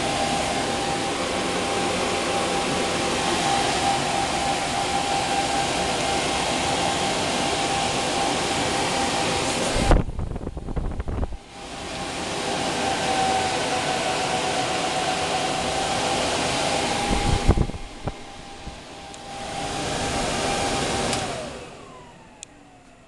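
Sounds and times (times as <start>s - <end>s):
rush of exhaust air: 0.0s - 22.4s
fans whining: 0.0s - 23.0s.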